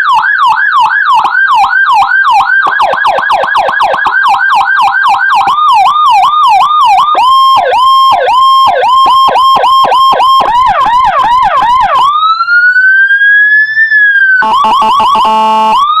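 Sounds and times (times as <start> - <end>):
electronic siren cycling tones: 0.0 - 16.0.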